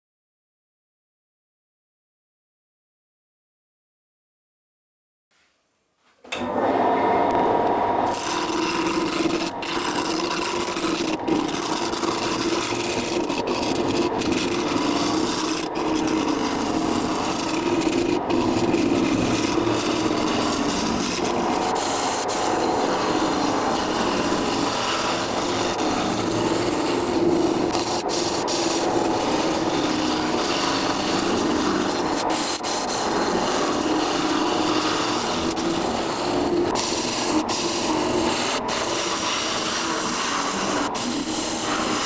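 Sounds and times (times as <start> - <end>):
lathe hum: 6.3 - 42.0
lathe tool scraping cut: 6.4 - 42.0.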